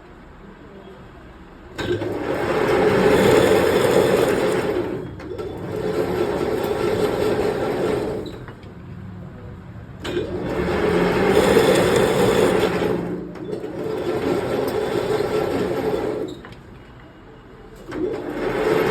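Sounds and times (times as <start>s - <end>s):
workshop machine running: 1.5s - 18.9s.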